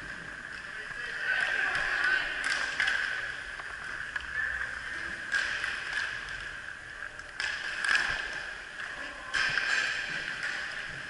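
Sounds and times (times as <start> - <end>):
sticks and puck clacking: 0.0 - 11.0.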